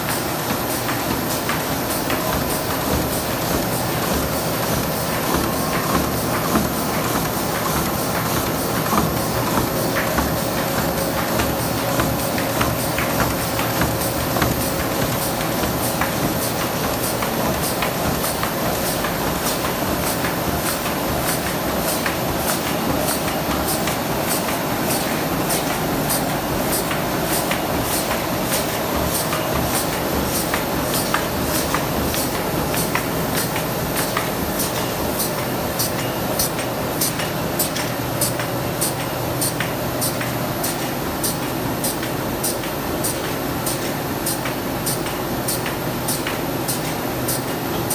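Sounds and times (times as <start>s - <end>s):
machine rollers humming: 0.0s - 47.9s.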